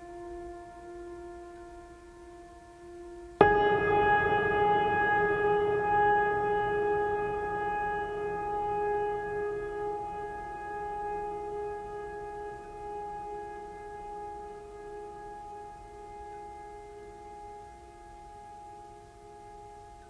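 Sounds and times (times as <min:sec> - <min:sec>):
sustained chord drone music: 0:00.0 - 0:20.0.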